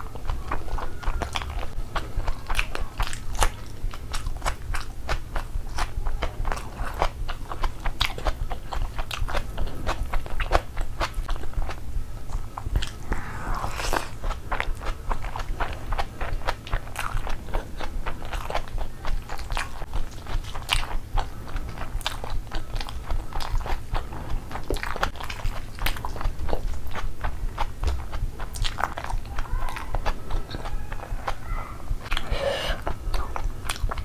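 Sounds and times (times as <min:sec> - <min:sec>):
wet chewing and lip-smacking: 0:00.0 - 0:34.0.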